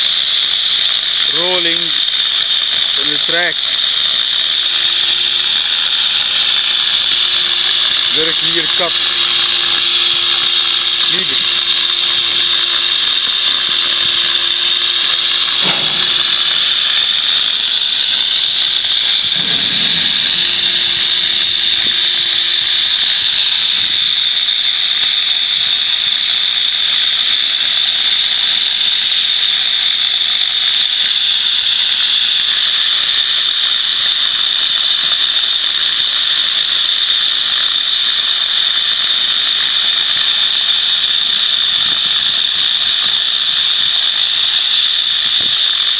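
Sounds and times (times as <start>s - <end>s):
cutting torch hissing: 0.0s - 45.9s.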